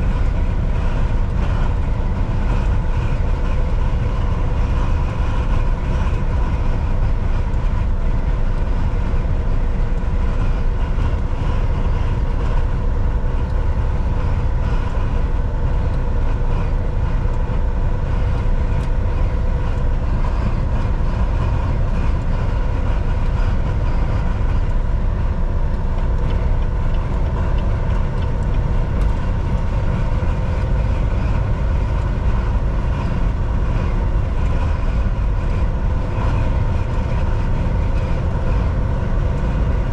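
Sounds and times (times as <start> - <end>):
faint whine: 0.0 - 39.9
truck engine and tyres rumbling: 0.0 - 39.9.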